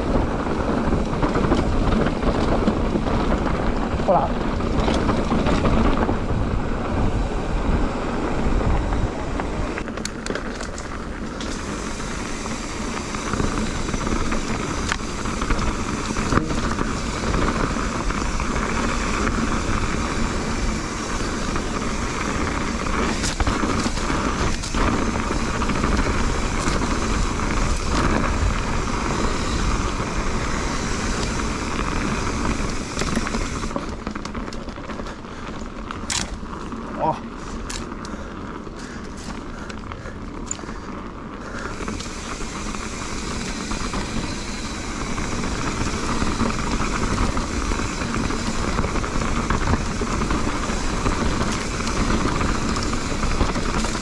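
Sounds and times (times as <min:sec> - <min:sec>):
bike rattling over bumps: 0:00.0 - 0:54.0
bike tyres rolling over dirt: 0:00.0 - 0:54.0.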